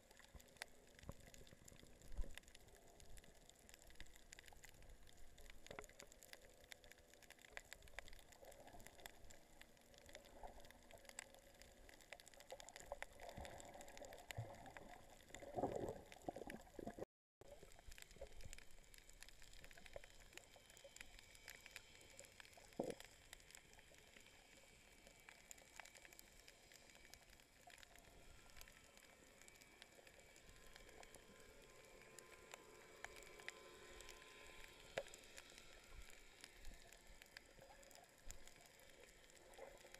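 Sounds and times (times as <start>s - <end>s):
small clicks and crackles: 0.0s - 39.9s
underwater gurgling: 0.0s - 39.9s.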